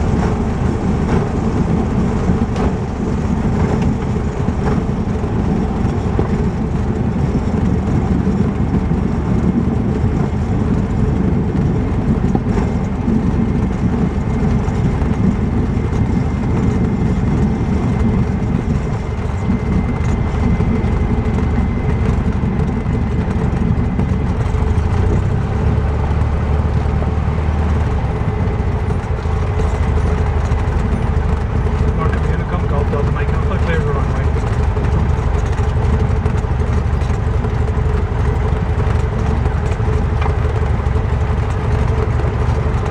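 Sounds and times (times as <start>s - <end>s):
airplane engine droning: 0.0s - 42.9s.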